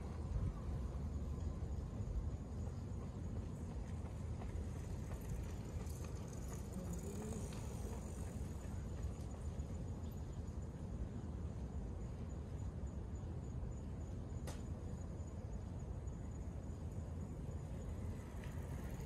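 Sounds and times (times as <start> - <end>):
insects chirping: 0.1 - 19.0.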